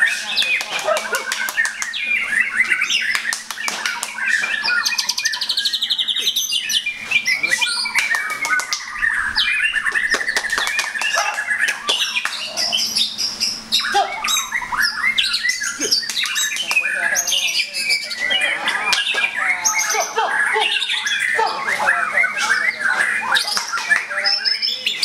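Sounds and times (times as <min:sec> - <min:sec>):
birds singing whistles and trills: 0:00.0 - 0:25.0.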